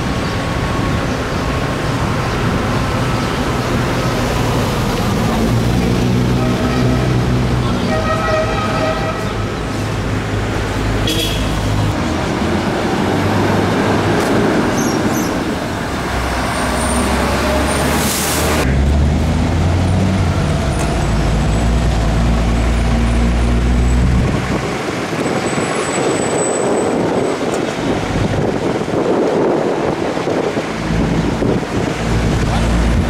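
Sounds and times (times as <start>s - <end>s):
city street traffic: 0.0s - 33.0s.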